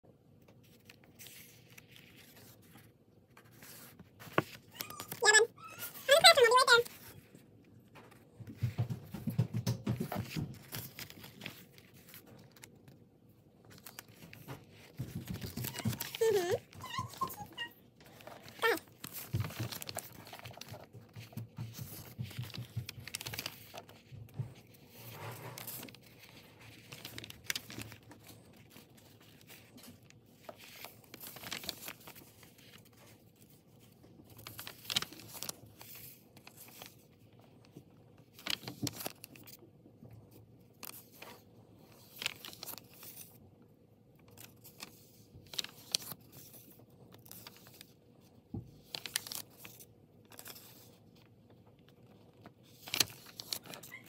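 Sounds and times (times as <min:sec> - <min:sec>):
paper rustling and crackling: 0:00.3 - 0:54.0.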